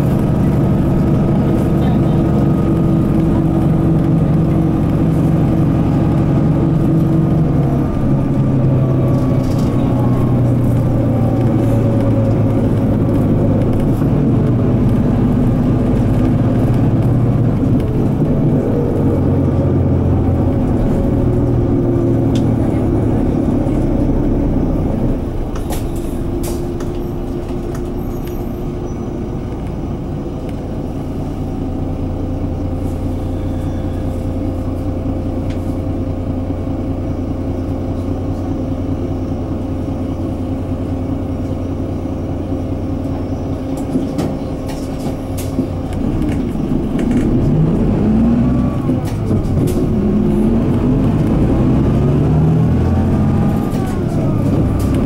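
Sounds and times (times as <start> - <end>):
bus diesel engine under load: 0.0 - 55.0.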